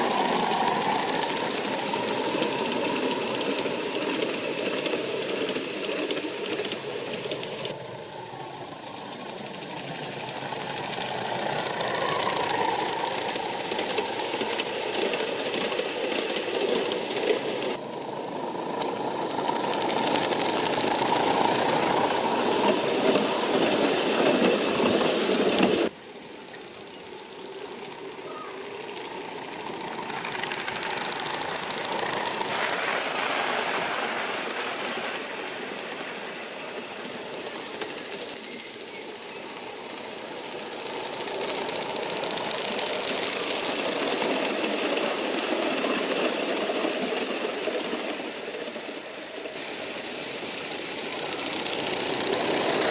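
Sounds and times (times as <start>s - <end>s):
steam locomotive running: 0.0s - 52.9s.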